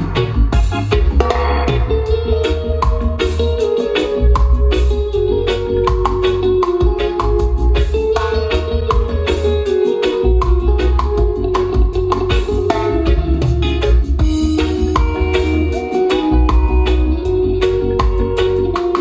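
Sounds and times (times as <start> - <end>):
heavy subwoofer bass: 0.0 - 19.0
song with drums over pa system: 0.0 - 19.0.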